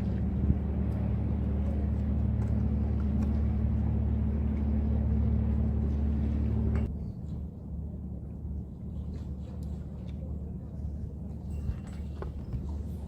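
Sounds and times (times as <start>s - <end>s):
engine running with low drone: 0.0s - 13.0s.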